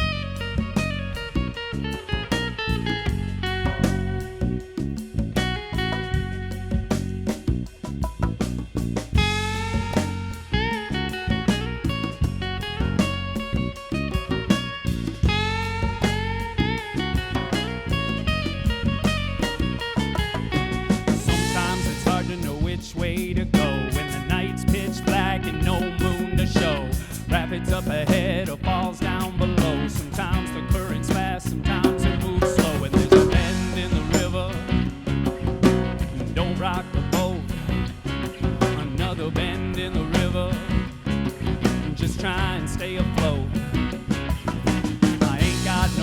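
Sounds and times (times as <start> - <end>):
band playing live: 0.0 - 46.0
drum kit beat: 0.0 - 46.0
guitar: 0.0 - 46.0.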